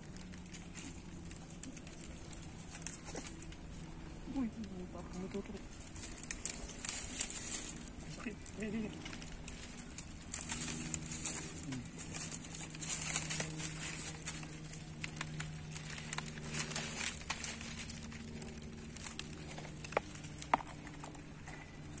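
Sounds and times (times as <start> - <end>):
dry palm fronds crackling: 0.0 - 22.0
steady low hum: 0.0 - 22.0.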